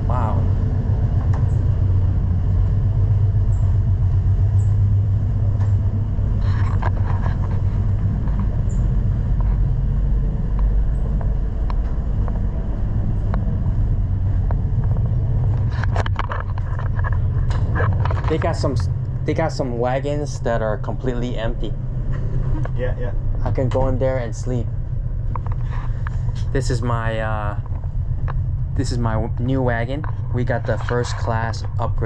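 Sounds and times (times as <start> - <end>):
train rumbling inside carriage: 0.0 - 32.0.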